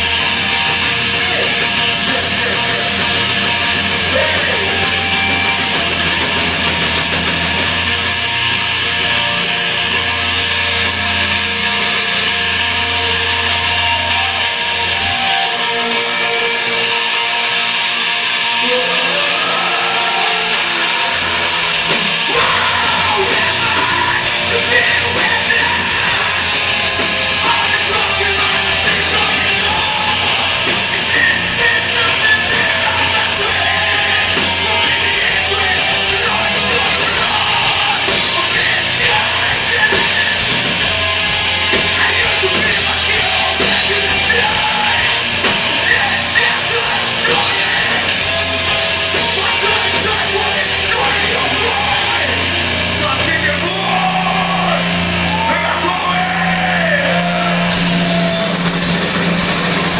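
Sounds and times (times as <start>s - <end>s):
rock band playing punk rock: 0.0s - 59.9s.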